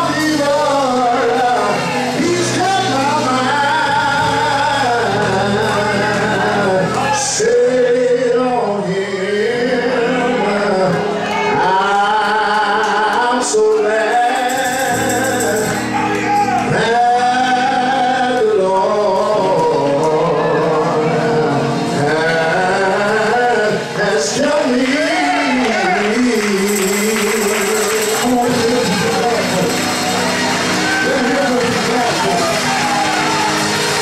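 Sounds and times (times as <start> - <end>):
gospel singing: 0.0 - 34.0
instrumental accompaniment: 0.0 - 34.0.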